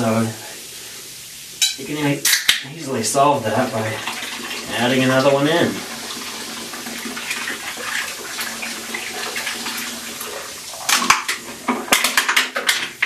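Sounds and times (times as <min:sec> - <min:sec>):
soda pouring and splashing: 0:02.2 - 0:13.0.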